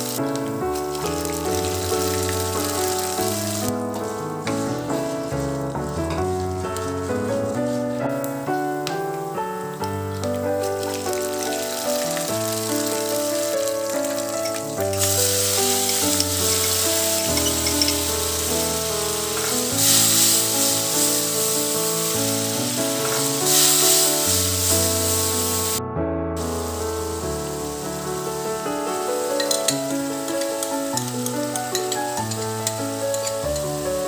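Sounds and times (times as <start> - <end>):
background music: 0.0 - 25.8, 26.4 - 34.0
oil sizzling in a pan: 0.0 - 25.8, 26.4 - 34.0.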